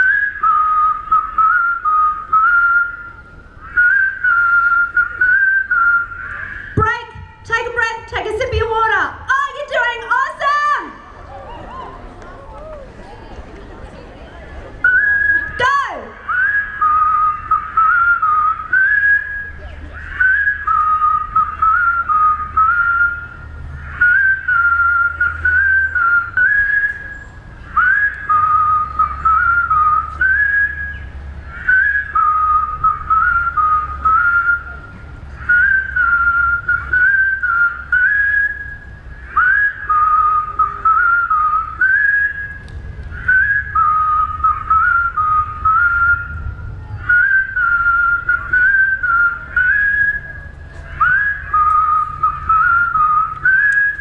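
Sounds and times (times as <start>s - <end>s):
crowd whistling a tune: 0.0s - 6.8s, 11.2s - 13.0s, 14.6s - 54.0s.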